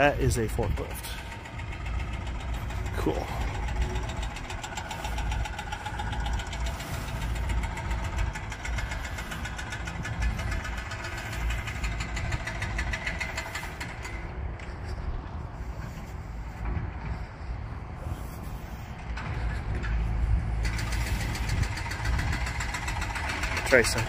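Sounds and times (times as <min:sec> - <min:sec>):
forklift engine running: 0:00.0 - 0:24.0.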